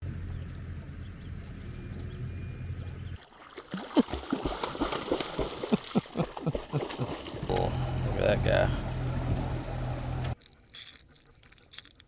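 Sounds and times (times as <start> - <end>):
boat motor humming: 0.0 - 10.4.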